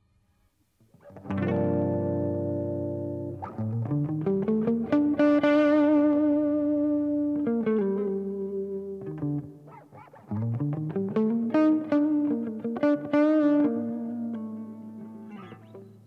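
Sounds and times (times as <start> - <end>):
distorted electric guitar: 1.0 - 16.0.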